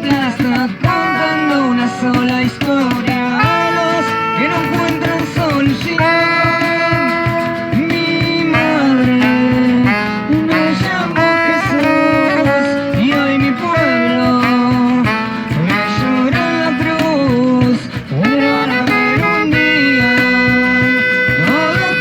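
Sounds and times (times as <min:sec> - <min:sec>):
drum hits: 0:00.0 - 0:22.0
rock band instrumental: 0:00.0 - 0:22.0.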